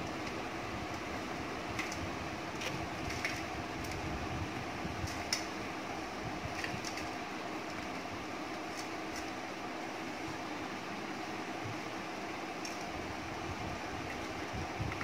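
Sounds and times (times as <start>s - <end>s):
room fan humming: 0.0s - 15.0s.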